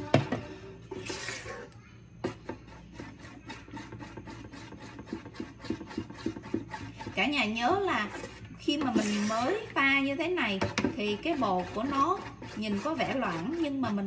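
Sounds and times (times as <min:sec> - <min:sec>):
metal spoon scraping metal pan: 0:00.9 - 0:14.0.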